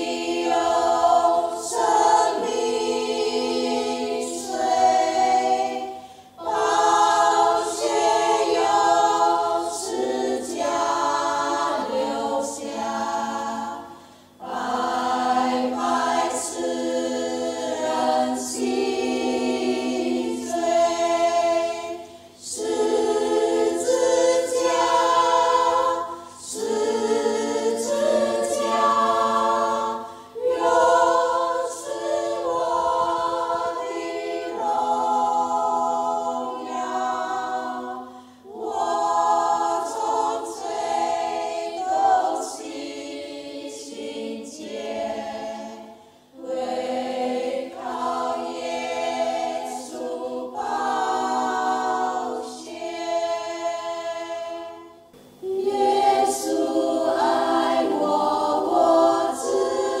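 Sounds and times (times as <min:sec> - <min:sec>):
women's choir singing a hymn: 0:00.0 - 1:00.0.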